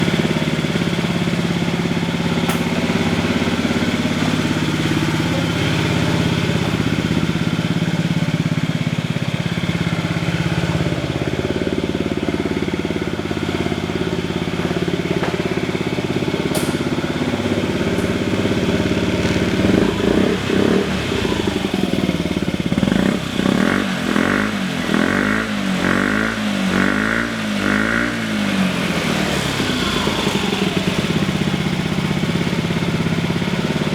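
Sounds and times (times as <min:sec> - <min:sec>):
scooter engine idling and revving: 0:00.0 - 0:33.9.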